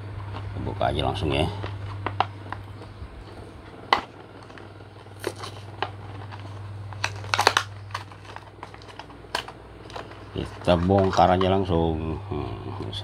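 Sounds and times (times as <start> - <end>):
plastic package crackling: 1.1 - 11.9.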